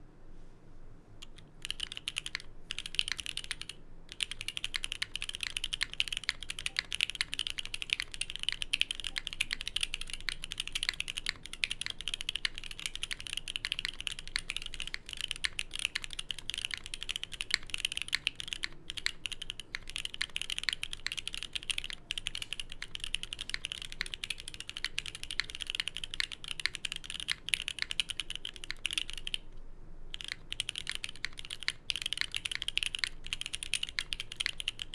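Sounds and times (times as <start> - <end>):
typing on mechanical keyboard: 1.2 - 29.5, 30.1 - 34.9.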